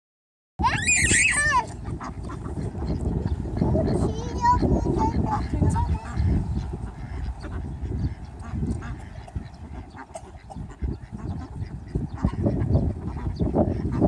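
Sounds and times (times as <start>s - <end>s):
ducks quacking: 0.6s - 14.0s.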